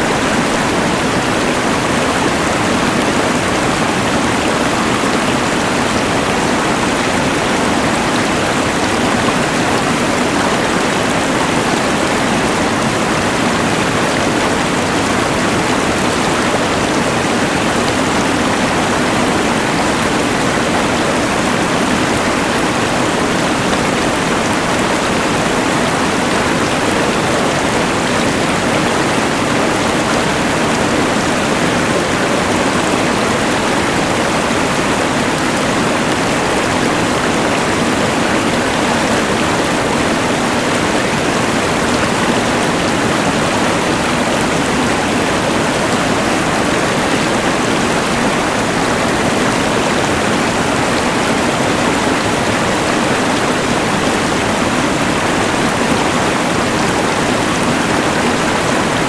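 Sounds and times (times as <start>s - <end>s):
rushing river: 0.0s - 59.0s.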